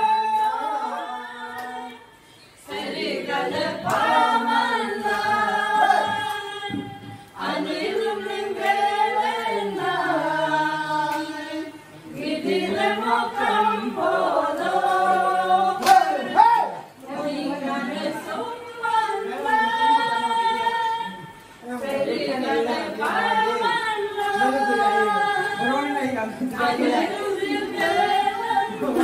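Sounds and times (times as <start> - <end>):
group singing unaccompanied: 0.0 - 29.0.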